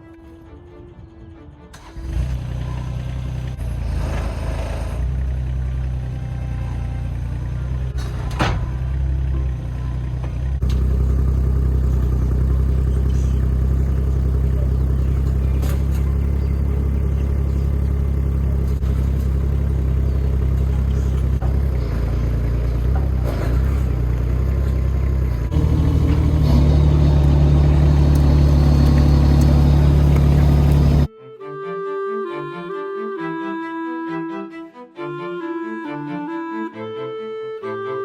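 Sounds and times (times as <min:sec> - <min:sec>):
earth-moving machine engine running: 0:00.0 - 0:31.1.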